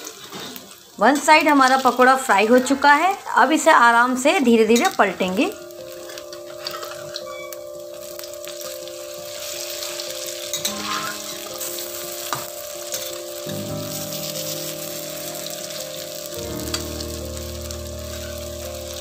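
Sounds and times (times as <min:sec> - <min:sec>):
fritters sizzling in hot oil: 0:00.0 - 0:19.0.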